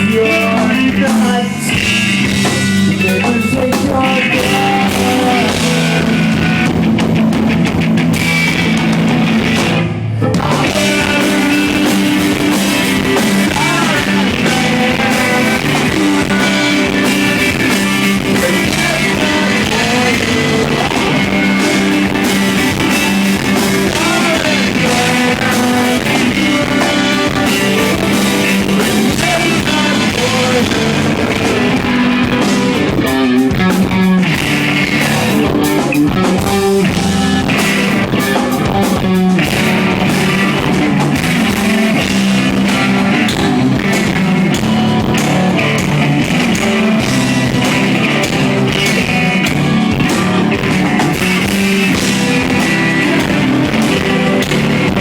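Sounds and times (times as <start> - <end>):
live rock band with singing: 0.0 - 55.0.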